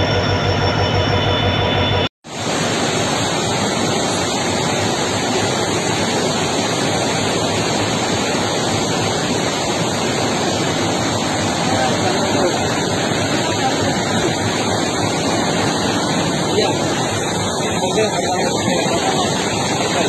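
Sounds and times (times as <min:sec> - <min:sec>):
diesel locomotive engine humming: 0:00.0 - 0:20.0
heavy rain pouring: 0:02.3 - 0:20.0.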